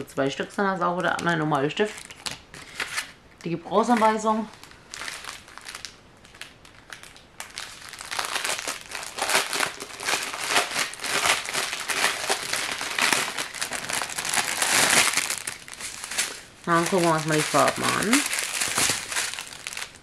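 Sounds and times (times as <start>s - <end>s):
plastic packaging crinkling: 3.8s - 20.0s.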